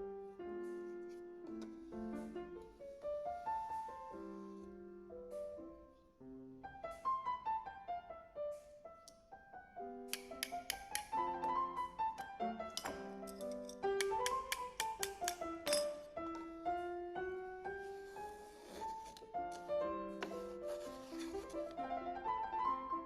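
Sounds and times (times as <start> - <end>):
solo piano music: 0.0 - 23.0.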